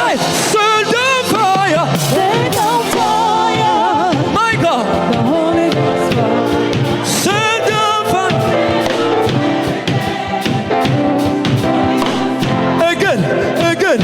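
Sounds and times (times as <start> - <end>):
band with steady beat: 0.0 - 14.0
gospel singing: 0.0 - 14.0.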